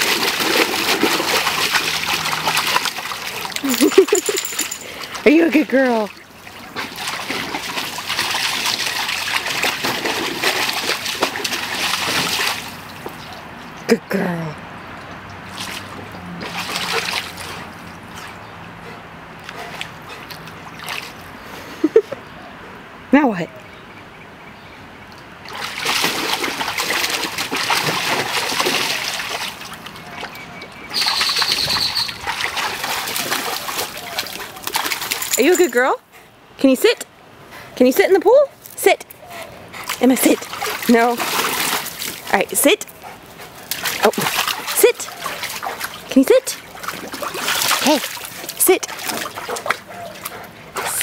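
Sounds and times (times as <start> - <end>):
dog splashing in water: 0.0 - 13.6, 15.2 - 21.4, 25.4 - 35.9, 39.8 - 51.0.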